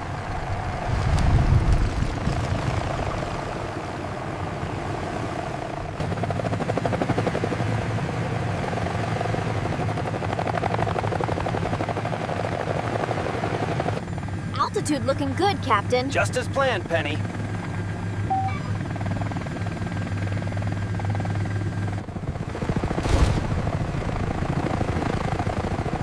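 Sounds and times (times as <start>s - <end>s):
helicopter engine whine: 0.0s - 26.0s
helicopter rotor chop: 0.0s - 26.0s.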